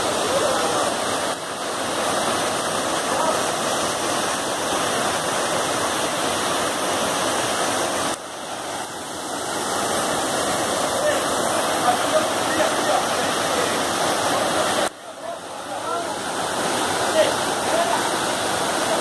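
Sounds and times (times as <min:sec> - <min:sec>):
waterfall pouring over rocks: 0:00.0 - 0:19.0.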